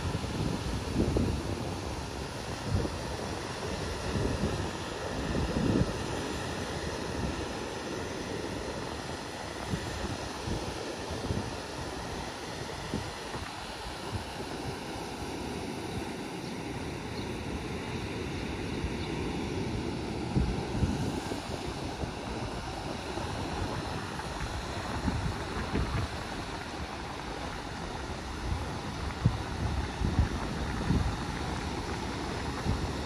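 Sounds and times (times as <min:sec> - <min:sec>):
surf washing onto beach: 0:00.0 - 0:33.0
wind buffeting microphone: 0:00.0 - 0:33.0.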